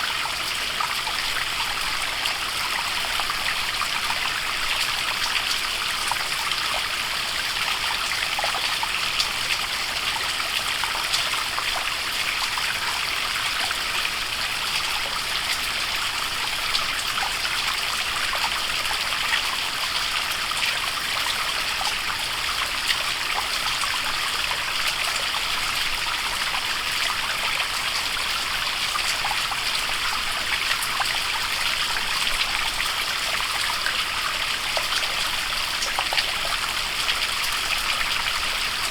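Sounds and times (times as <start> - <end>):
small splashes and drips: 0.2 - 38.9.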